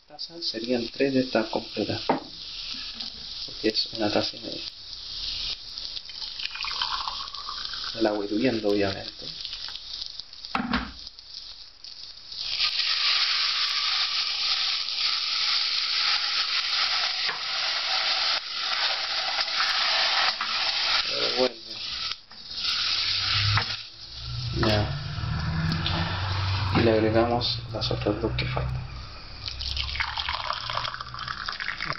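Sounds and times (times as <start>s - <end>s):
rice sizzling in a hot pot: 0.0s - 26.8s, 28.6s - 31.9s.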